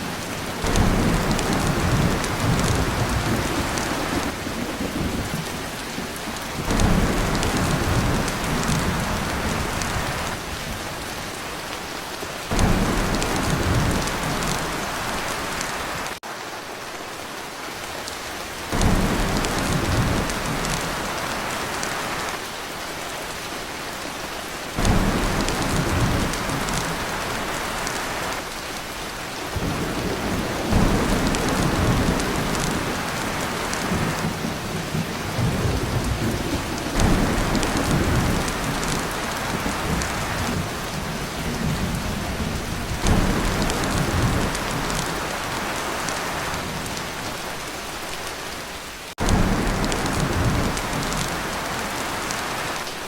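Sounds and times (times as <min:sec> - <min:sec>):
heavy rain on a tin roof: 0:00.0 - 0:53.0
thunder rumbling: 0:00.4 - 0:11.3, 0:12.5 - 0:16.2, 0:18.7 - 0:22.3, 0:24.8 - 0:47.7, 0:49.2 - 0:52.8.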